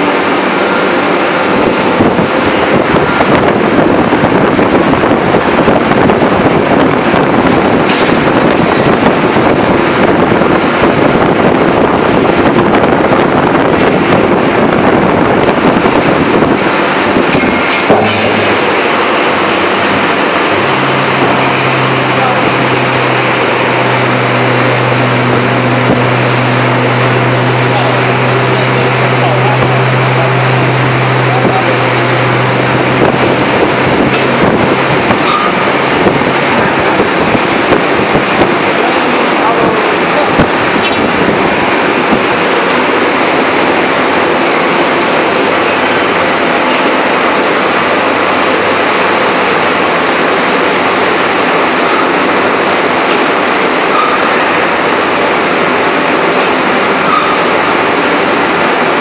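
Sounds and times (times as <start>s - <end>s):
forging press machinery noise: 0.0s - 59.0s
strong low hum: 0.0s - 59.0s.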